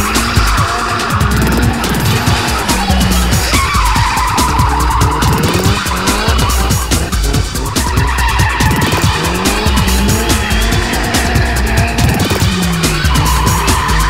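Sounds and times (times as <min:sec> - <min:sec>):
car engine revving: 0:00.0 - 0:14.0
music playing: 0:00.0 - 0:14.0
tyres squealing: 0:00.0 - 0:14.0.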